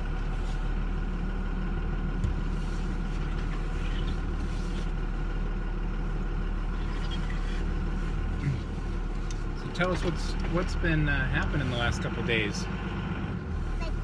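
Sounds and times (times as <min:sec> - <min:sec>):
engine hum inside truck cab: 0:00.0 - 0:14.0
road noise: 0:00.0 - 0:14.0.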